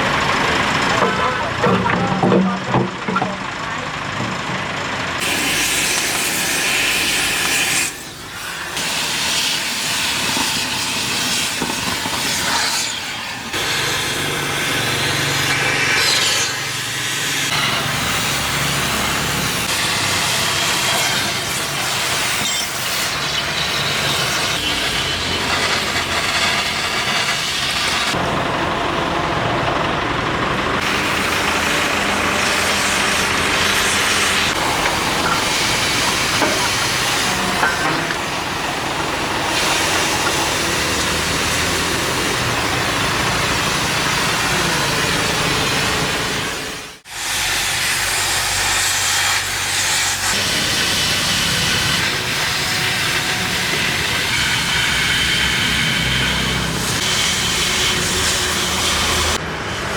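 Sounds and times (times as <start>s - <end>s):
hissing machinery noise: 0.0s - 59.9s.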